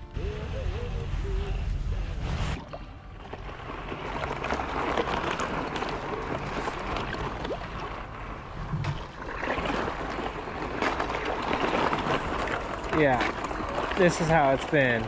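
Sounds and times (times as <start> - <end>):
thin ice crackling: 2.0 - 15.0
paddle splashing: 2.2 - 15.0.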